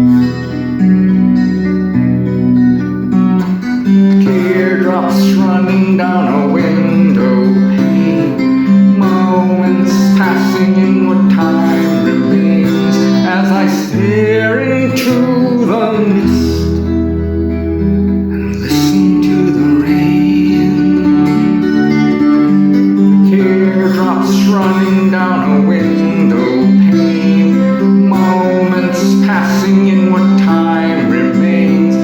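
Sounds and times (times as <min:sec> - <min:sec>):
guitar-led instrumental music: 0:00.0 - 0:32.0.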